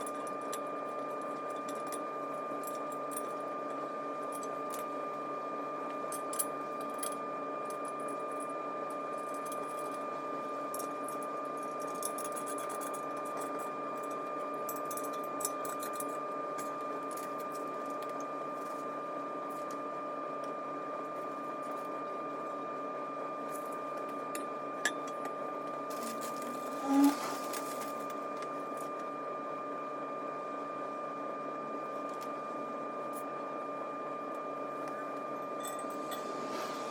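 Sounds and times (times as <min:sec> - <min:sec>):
mechanical hum with whine: 0:00.0 - 0:36.9.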